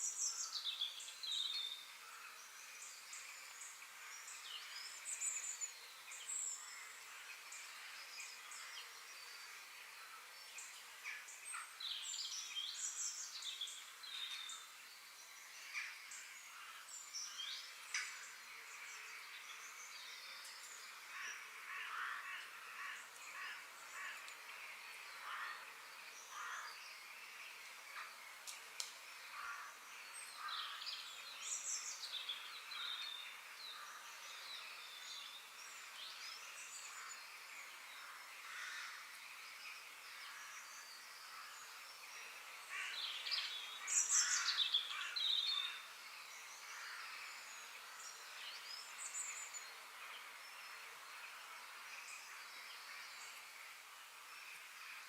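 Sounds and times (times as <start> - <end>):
faint outdoor hiss: 0.0 - 55.0
wild birds chirping and calling: 0.0 - 55.0.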